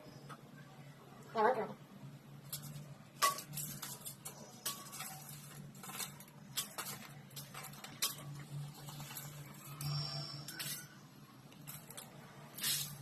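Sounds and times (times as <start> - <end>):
metal utensils clinking on cookware: 2.5 - 13.0.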